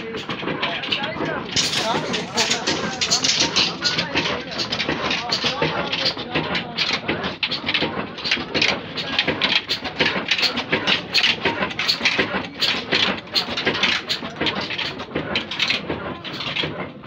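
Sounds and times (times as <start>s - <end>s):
old stationary engine knocking: 0.0s - 17.0s.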